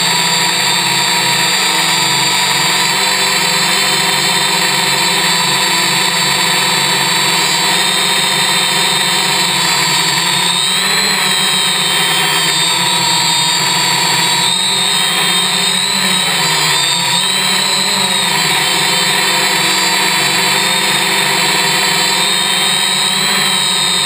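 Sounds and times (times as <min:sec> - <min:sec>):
drone motors whining in flight: 0:00.0 - 0:24.0.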